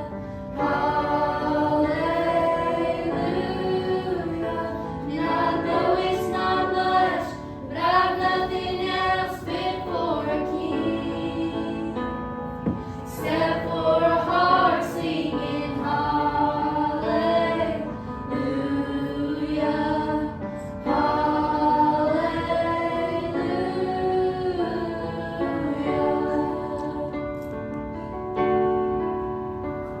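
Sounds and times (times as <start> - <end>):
youth choir singing: 0.0 - 27.4
soft musical accompaniment: 0.0 - 30.0.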